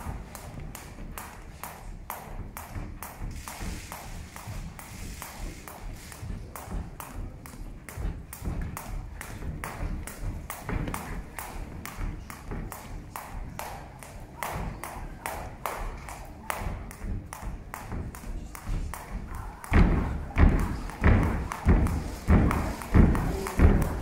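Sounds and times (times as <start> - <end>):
feet tapping on ring canvas: 0.0 - 24.0
heavy jumping thuds: 0.0 - 24.0.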